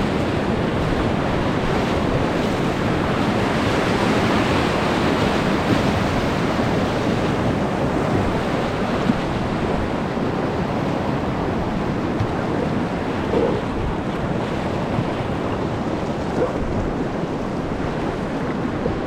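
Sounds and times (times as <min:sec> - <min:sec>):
whitewater rushing through rapid: 0:00.0 - 0:19.0.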